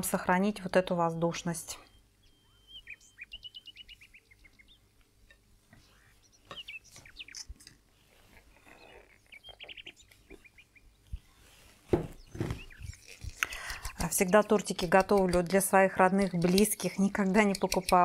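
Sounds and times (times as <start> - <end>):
songbird chirping: 0.6 - 18.0.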